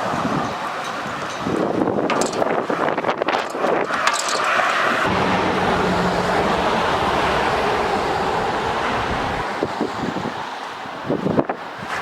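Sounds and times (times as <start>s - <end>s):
wind buffeting microphone: 0.0s - 4.1s, 4.8s - 12.0s
gusty wind rushing: 1.5s - 12.0s.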